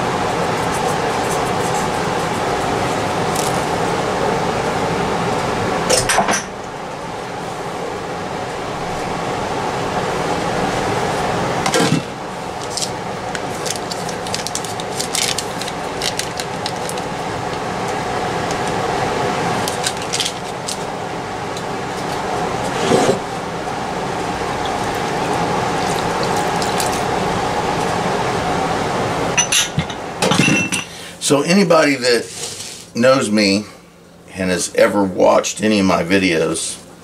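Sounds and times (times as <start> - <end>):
steady mechanical hum: 0.0 - 37.0.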